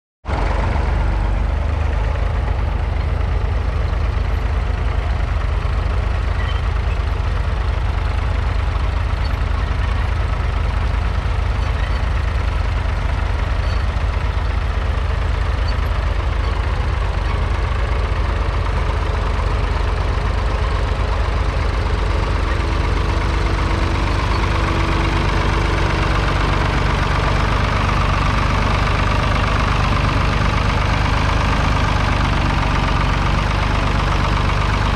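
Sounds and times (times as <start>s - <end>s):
tractor diesel engine under load: 0.2s - 34.9s.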